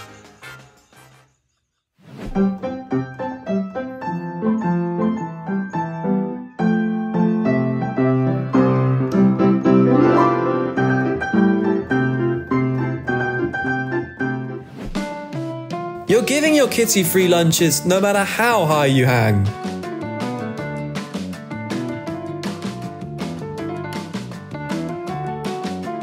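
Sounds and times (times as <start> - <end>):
upright piano playing: 2.4 - 26.0.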